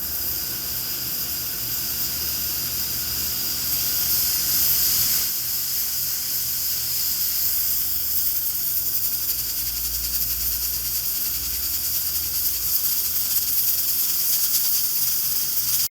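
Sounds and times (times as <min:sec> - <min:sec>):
pressure cooker steam hissing: 0:00.0 - 0:16.0.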